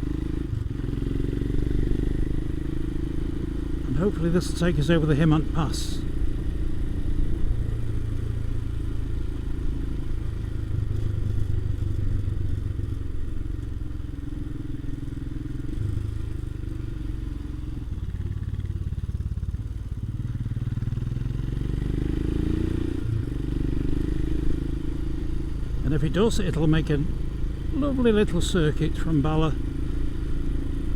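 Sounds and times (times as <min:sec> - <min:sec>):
motorcycle engine droning: 0:00.0 - 0:30.9.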